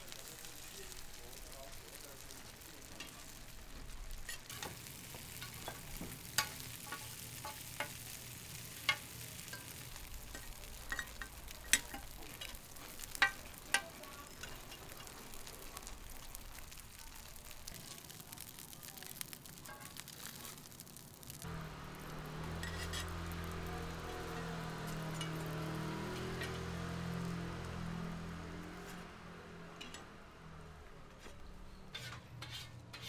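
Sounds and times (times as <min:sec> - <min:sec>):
food frying with sizzle: 0:00.0 - 0:33.0.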